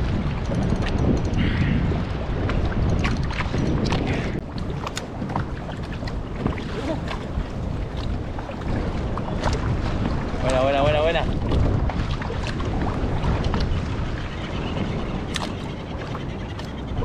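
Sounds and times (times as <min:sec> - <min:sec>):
waves slapping plastic hull: 0:00.0 - 0:14.2, 0:14.8 - 0:17.0
wind buffeting microphone: 0:00.0 - 0:17.0.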